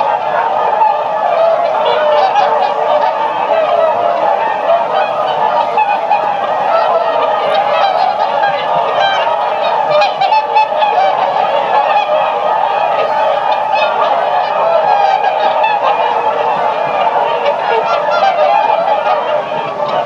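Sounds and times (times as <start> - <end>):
swans honking: 0.0 - 20.0.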